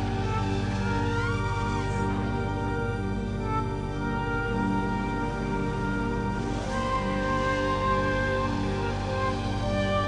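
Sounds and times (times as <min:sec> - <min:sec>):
background music with sustained chords: 0:00.0 - 0:10.0.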